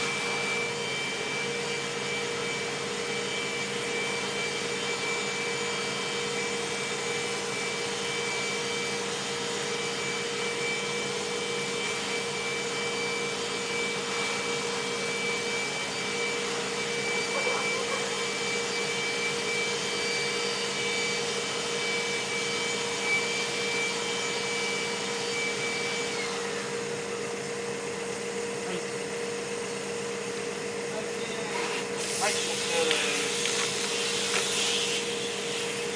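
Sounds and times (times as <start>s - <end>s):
high motor whine: 0.0s - 35.9s
ventilation blower motor hum: 0.0s - 35.9s.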